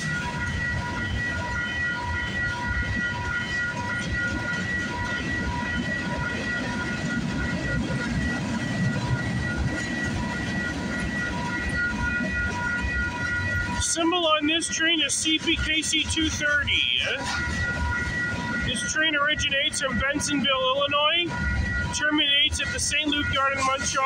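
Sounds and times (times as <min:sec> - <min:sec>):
crossing warning bell ringing: 0:00.0 - 0:24.0.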